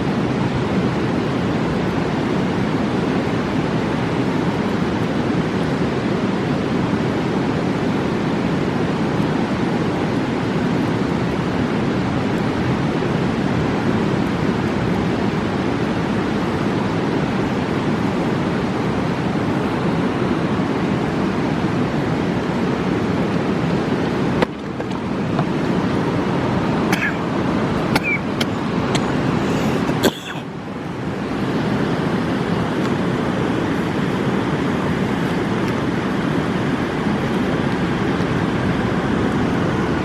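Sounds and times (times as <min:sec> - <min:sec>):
river rushing: 0:00.0 - 0:40.0.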